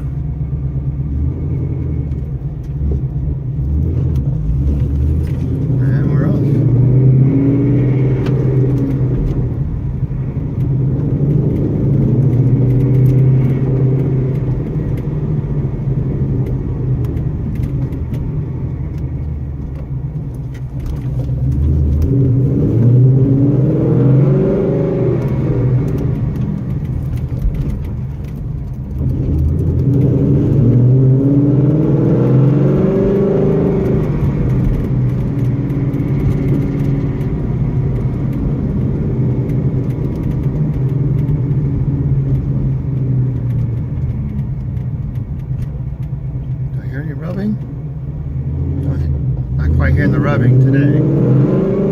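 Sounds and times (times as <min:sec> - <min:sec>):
car engine accelerating: 0:00.0 - 0:51.9
road rumble: 0:00.0 - 0:51.9.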